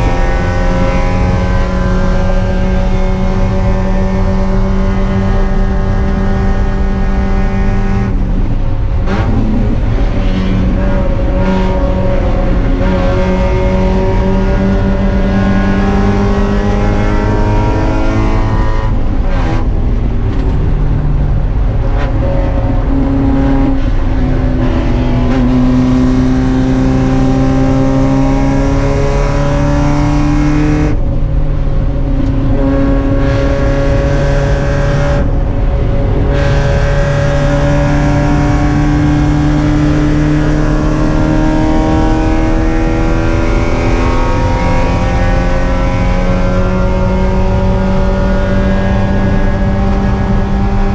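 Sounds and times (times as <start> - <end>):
race car engine running hard: 0.0 - 50.9.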